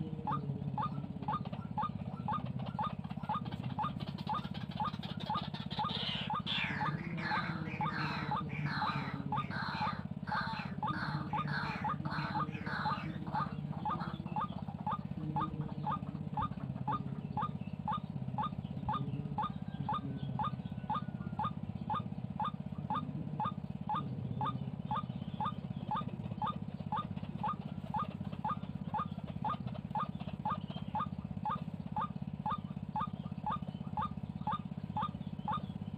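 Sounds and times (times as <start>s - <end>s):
waterhen calls: 0.0s - 35.8s
steady low hum: 0.0s - 35.9s.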